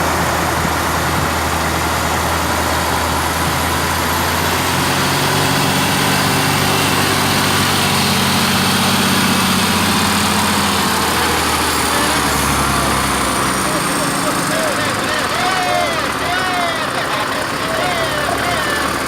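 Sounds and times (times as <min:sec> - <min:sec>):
diesel truck engines droning: 0:00.0 - 0:19.0.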